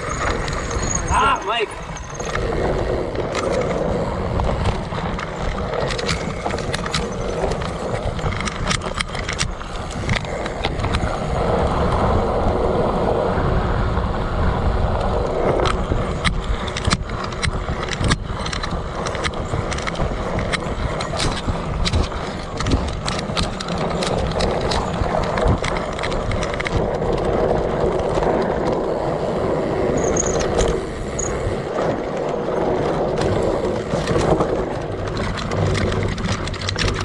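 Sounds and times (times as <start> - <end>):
sharp clicks and rattles: 0.0 - 12.2, 14.8 - 37.0
bike tyre rumbling on dirt: 0.0 - 37.0.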